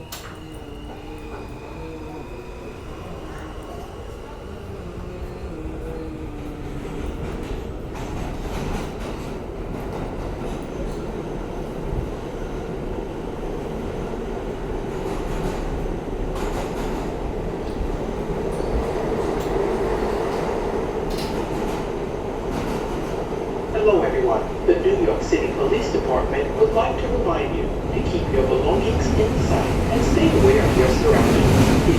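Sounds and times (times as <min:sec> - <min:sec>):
subway car rumbling: 0:00.0 - 0:31.9.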